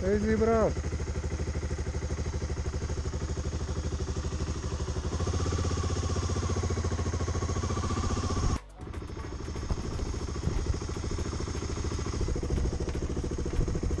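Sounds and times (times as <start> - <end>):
motorcycle engine pulsing exhaust: 0.0 - 14.0.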